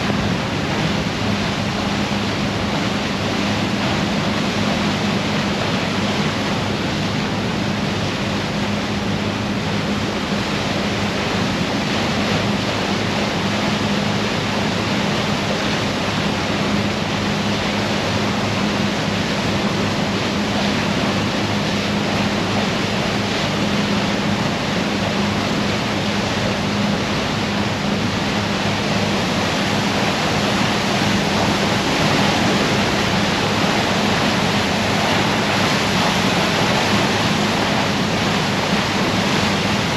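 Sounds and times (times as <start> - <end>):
low engine hum: 0.0 - 39.9
wind and water rushing: 0.0 - 39.9.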